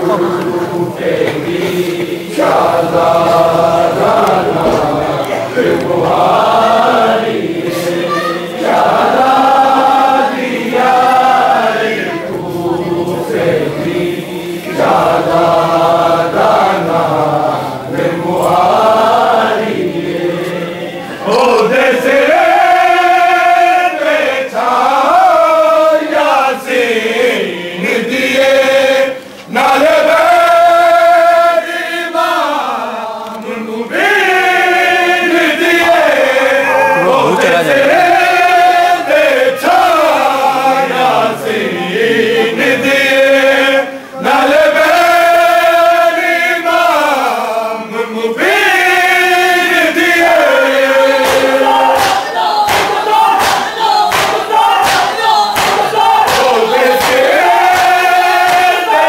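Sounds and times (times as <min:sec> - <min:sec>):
men chanting a lament: 0:00.0 - 0:59.0.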